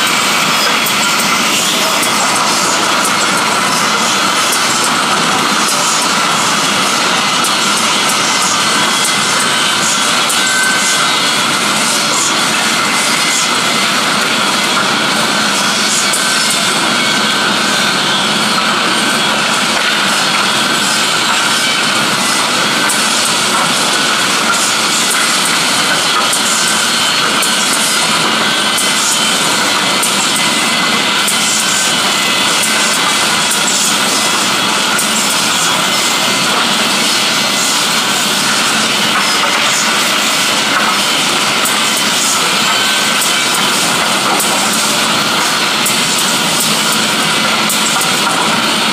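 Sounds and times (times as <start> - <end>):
woodworking machine running: 0.0 - 48.9.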